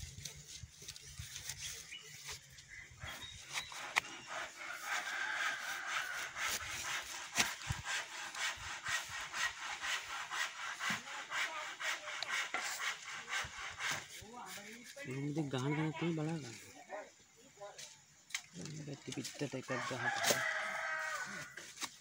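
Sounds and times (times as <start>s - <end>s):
scraping against palm trunk: 0.0s - 15.3s, 18.3s - 22.0s.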